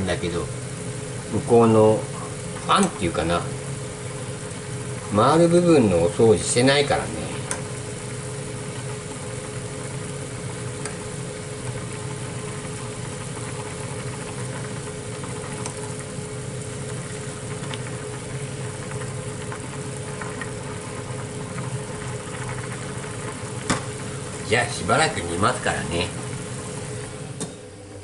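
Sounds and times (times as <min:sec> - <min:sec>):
range hood fan droning: 0:00.0 - 0:28.0.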